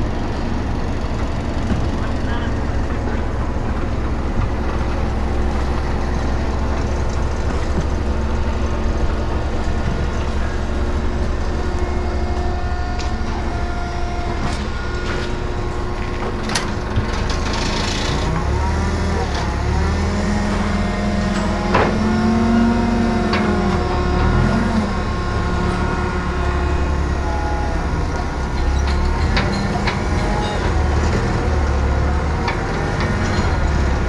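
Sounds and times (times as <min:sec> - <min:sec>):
vehicle engine droning: 0:00.0 - 0:34.0.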